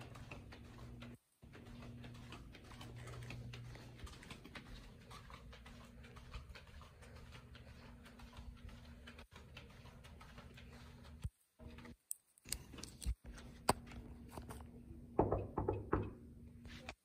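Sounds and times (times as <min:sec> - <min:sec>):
phone handling ticks and rustles: 0:00.0 - 0:14.7
steady low hum: 0:00.0 - 0:16.9.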